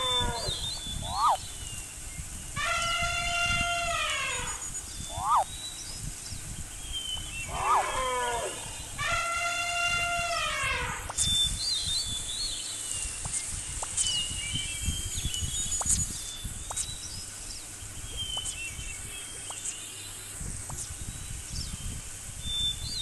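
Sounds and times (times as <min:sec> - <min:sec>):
birds chirping: 0:00.0 - 0:23.0
low background noise: 0:00.0 - 0:23.0.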